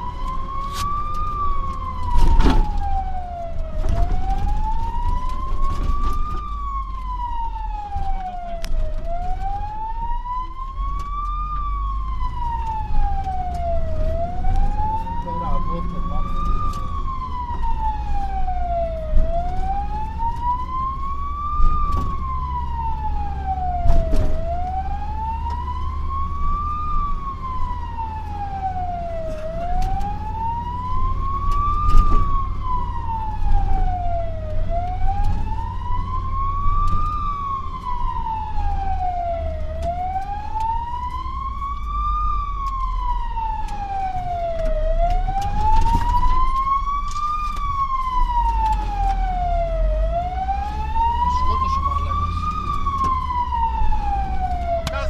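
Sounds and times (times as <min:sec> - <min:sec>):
engine rumble: 0:00.0 - 0:55.0
fire engine siren wailing: 0:00.0 - 0:55.0.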